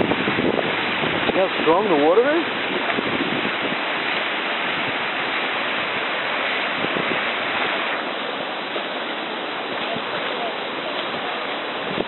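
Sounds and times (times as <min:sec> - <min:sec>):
floodwater rushing and churning: 0:00.0 - 0:12.0.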